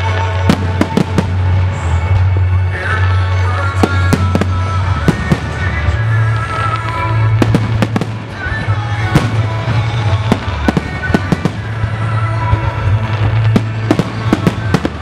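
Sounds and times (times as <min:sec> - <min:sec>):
fireworks bursting: 0:00.0 - 0:15.0
loud music: 0:00.0 - 0:15.0.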